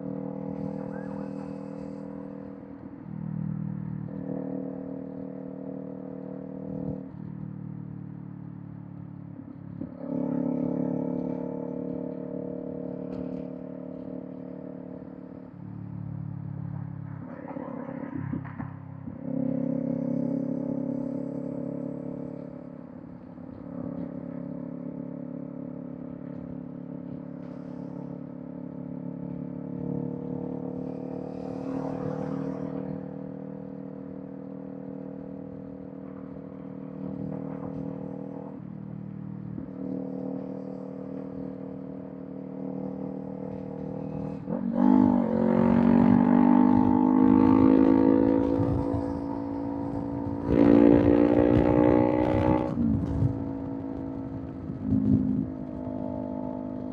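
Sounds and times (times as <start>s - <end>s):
motorcycle engine accelerating: 0.0s - 56.9s.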